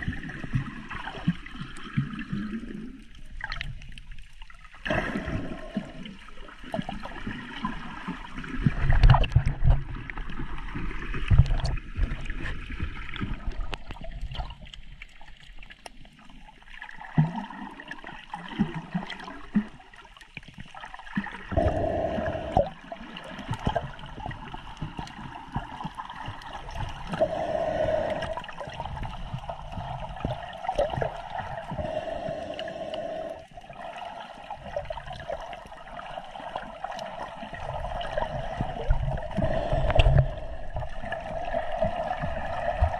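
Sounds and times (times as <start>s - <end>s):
sea water sloshing and gurgling: 0.0s - 42.9s.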